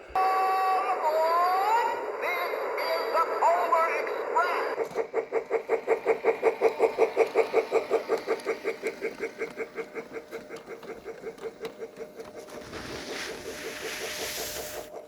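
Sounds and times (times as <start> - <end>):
steam locomotive rapid pulse: 0.0 - 15.0.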